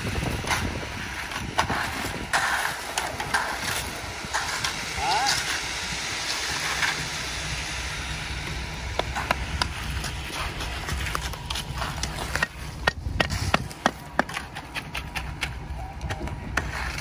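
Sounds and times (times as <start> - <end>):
concrete truck rumbling: 0.0 - 17.0.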